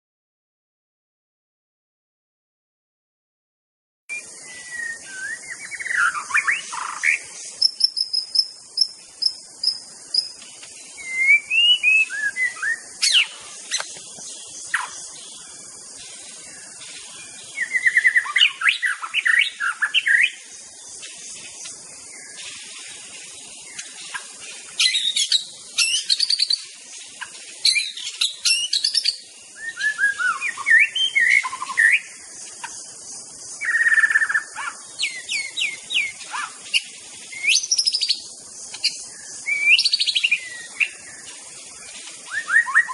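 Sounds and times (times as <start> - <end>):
bird singing: 4.1 - 42.9
steady high hiss: 4.1 - 42.9.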